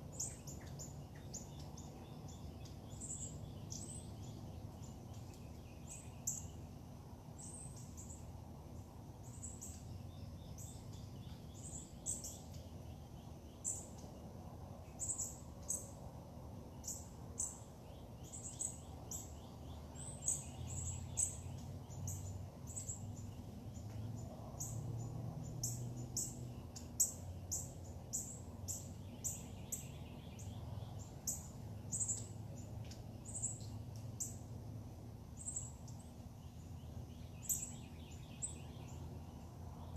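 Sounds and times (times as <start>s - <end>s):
birds chirping: 0.0s - 16.0s, 16.7s - 34.5s, 35.2s - 39.9s
steady low hum: 0.0s - 39.9s.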